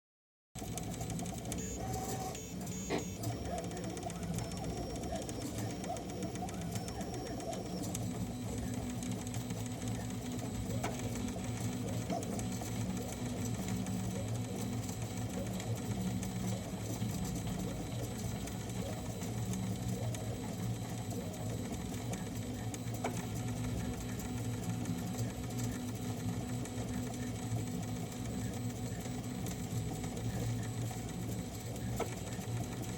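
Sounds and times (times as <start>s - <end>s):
small machine running: 0.6s - 32.9s.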